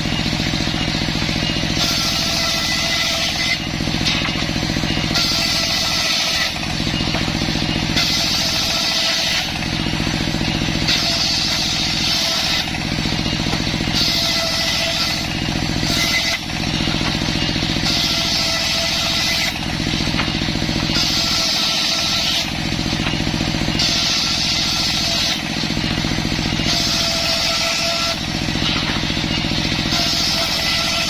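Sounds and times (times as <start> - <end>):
circular saw engine running: 0.0 - 31.0
saw blade cutting wood: 0.0 - 31.0.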